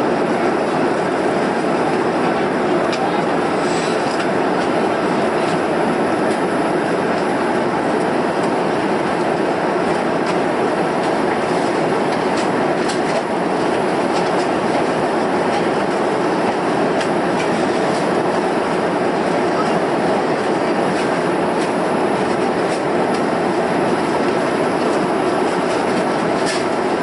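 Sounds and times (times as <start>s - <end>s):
airliner cabin rumble: 0.1s - 27.0s.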